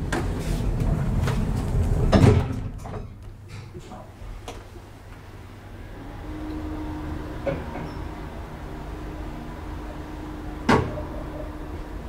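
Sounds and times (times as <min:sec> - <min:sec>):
elevator rumble and hum: 0:00.0 - 0:12.0.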